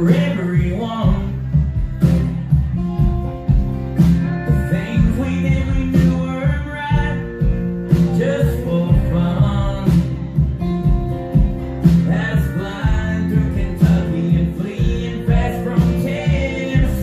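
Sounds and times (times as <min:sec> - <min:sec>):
acoustic guitar strumming: 0:00.0 - 0:17.0
drums with steady beat: 0:00.0 - 0:17.0.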